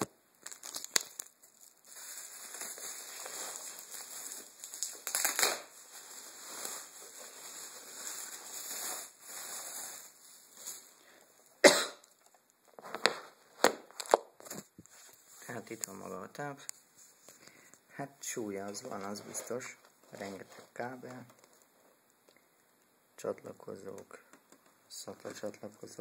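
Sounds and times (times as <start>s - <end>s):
plastic wrapping crinkling: 0.0s - 17.8s, 18.7s - 22.4s.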